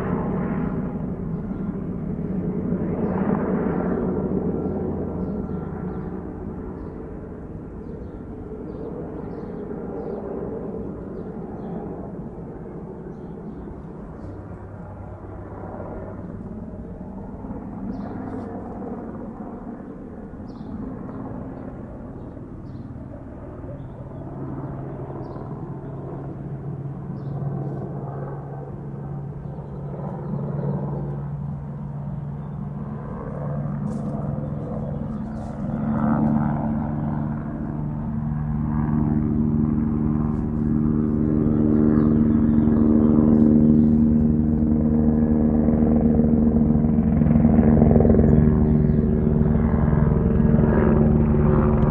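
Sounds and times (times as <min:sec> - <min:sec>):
helicopter rotor drone: 0:00.0 - 0:51.9.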